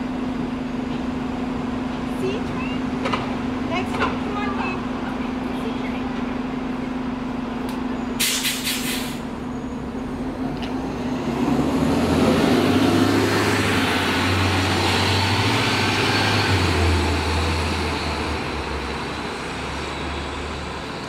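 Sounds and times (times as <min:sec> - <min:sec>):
bus engine accelerating: 0:00.0 - 0:21.0.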